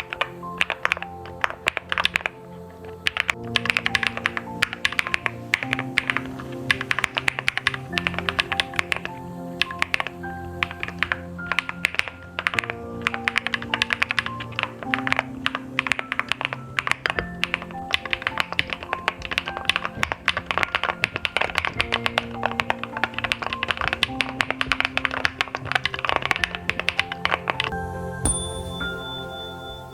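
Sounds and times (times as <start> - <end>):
background music with held notes: 0.0 - 29.9
mechanical keyboard typing: 3.0 - 27.7.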